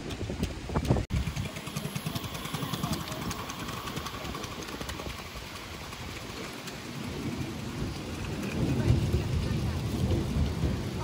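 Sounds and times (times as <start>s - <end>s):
miniature train wheels rumbling: 0.1s - 11.0s.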